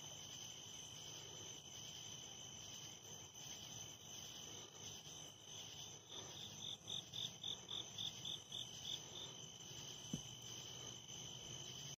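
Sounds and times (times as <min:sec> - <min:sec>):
crickets trilling: 0:00.0 - 0:12.0
nearby cricket chirping: 0:00.0 - 0:12.0.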